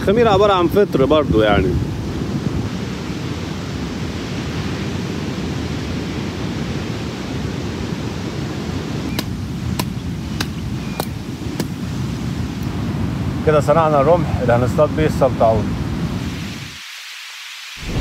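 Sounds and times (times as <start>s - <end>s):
wind rumbling on microphone: 0.0s - 16.9s, 17.7s - 18.0s
surf on seashore: 0.0s - 18.0s.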